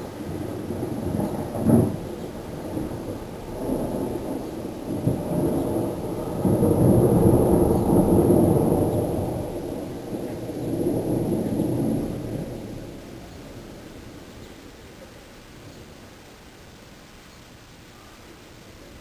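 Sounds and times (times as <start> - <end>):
wind gusting on microphone: 0.0 - 16.1.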